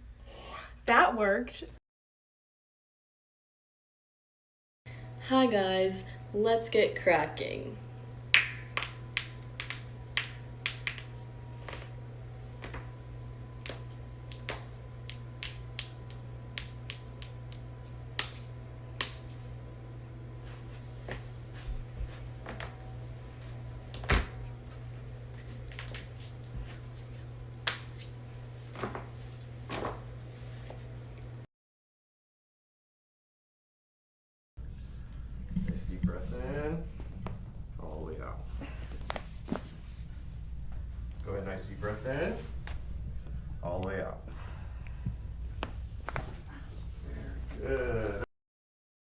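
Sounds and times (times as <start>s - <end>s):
steady low hum: 4.9s - 31.4s, 34.6s - 48.3s.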